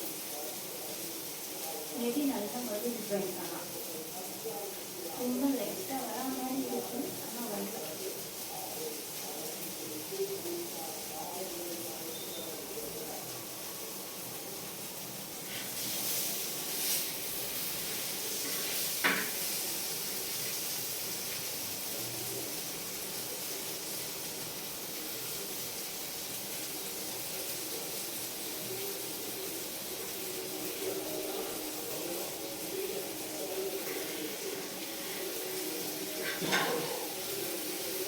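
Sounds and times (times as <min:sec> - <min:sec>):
fish sizzling in hot oil: 0:00.0 - 0:38.0.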